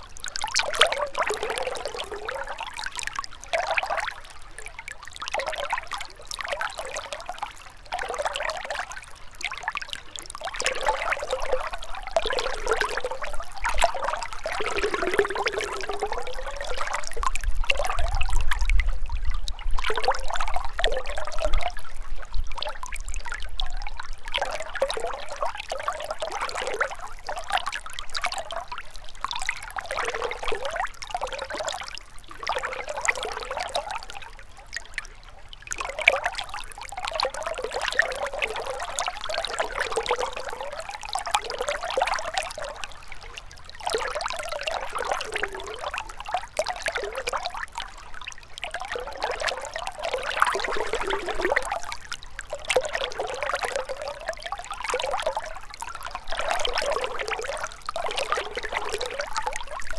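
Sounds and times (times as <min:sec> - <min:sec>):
river water trickling and gurgling: 0:00.0 - 0:59.9.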